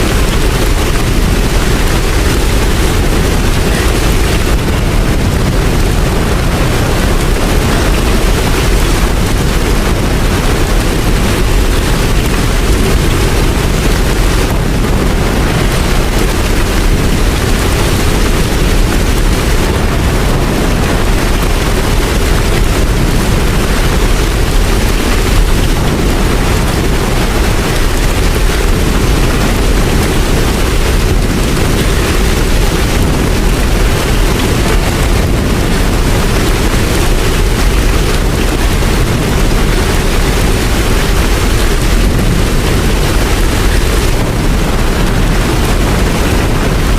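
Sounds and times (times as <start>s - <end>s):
deep rumble: 0.0s - 46.9s
steady rain: 0.0s - 46.9s.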